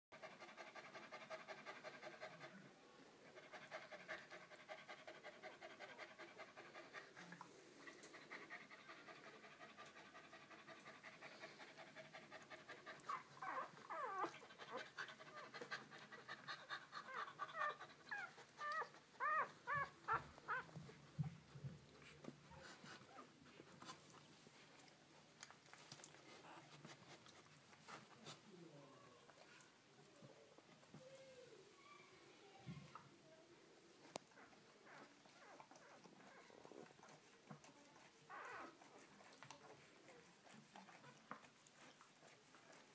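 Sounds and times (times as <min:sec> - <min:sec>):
dog panting: 0:00.1 - 0:28.6, 0:34.0 - 0:42.9.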